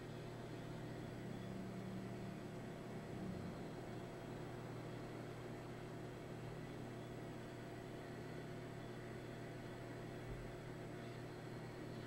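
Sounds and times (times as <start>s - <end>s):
faint electrical hum: 0.0s - 12.0s
thin high whine: 0.0s - 12.0s.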